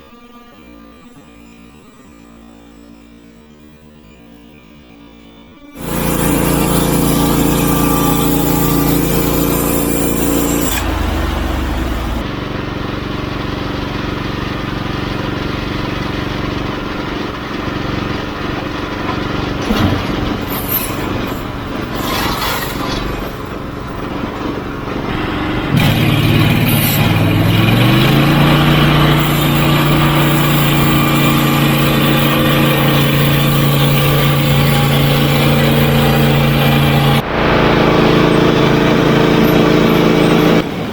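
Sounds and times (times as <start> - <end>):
gas engine running: 5.8 - 40.9.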